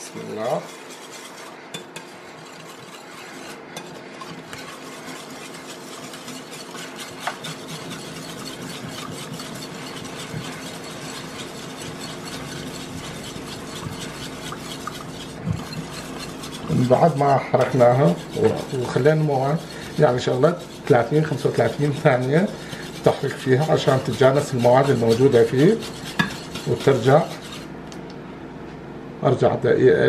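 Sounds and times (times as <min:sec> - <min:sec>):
wire whisk scraping a bowl: 0:00.0 - 0:27.8.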